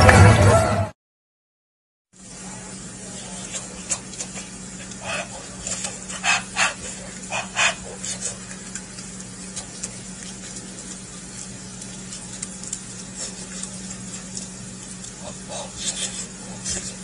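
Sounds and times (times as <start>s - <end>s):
steady low hum: 2.2s - 17.0s.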